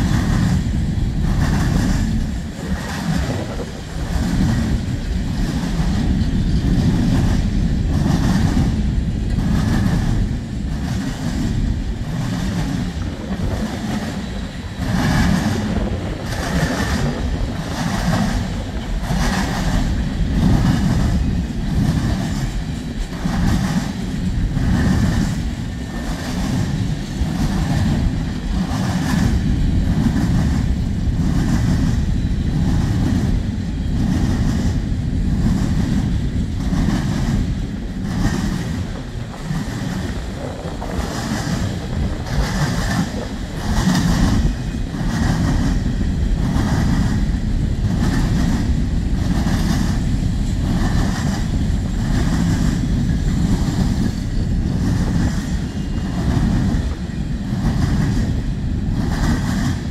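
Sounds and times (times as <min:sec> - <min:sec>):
freight train rumbling past: 0:00.0 - 0:59.9
steel wheels clacking on track: 0:00.0 - 0:59.9.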